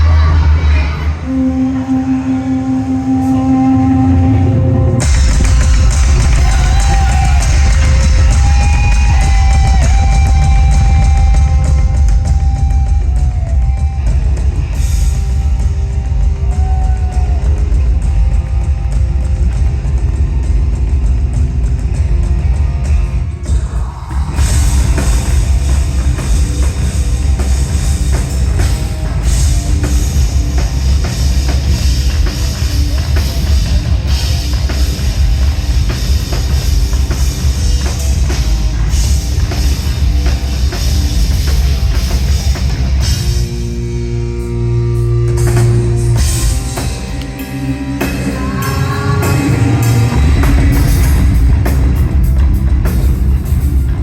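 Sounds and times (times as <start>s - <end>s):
live hard rock band: 3.3s - 54.0s.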